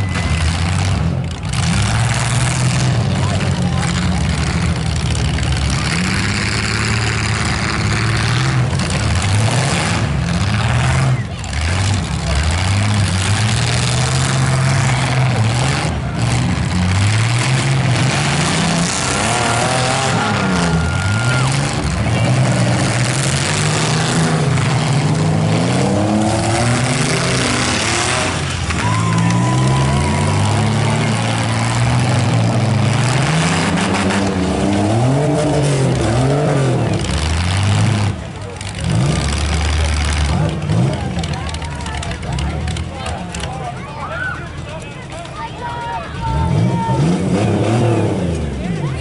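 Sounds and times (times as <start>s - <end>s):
car engines revving: 0.0s - 49.0s
cars ramming each other: 0.0s - 49.0s
constant rush of noise: 0.0s - 49.0s.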